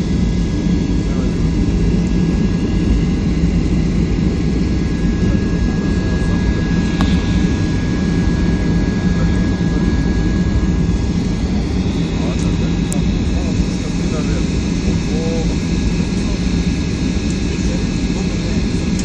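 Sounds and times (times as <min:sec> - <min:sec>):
airplane cabin roar: 0:00.0 - 0:19.0
thin steady whine: 0:00.0 - 0:19.0.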